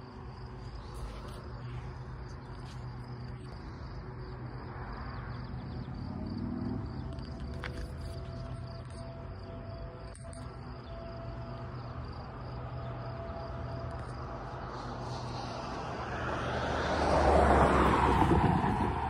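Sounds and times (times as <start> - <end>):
vehicle passing by: 0.4 - 9.0, 12.4 - 19.0.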